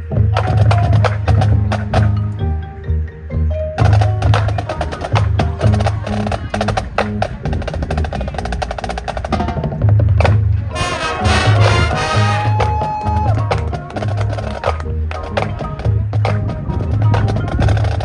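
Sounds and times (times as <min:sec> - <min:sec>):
marching band playing: 0:00.0 - 0:18.0.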